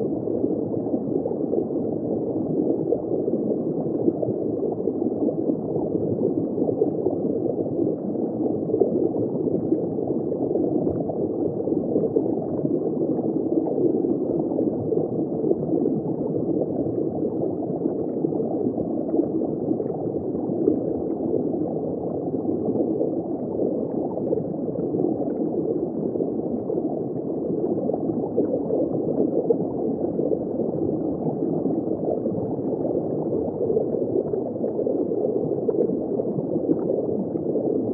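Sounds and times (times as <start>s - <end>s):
muffled underwater water rushing: 0.0s - 37.9s.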